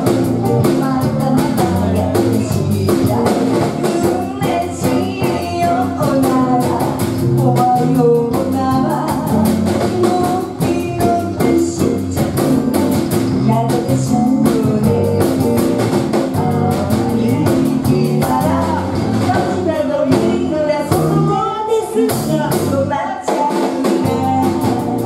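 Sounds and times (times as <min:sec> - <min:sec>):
electric guitars: 0:00.0 - 0:22.9, 0:23.6 - 0:25.0
drum kit beat: 0:00.0 - 0:25.0
woman singing lead vocal: 0:00.0 - 0:25.0.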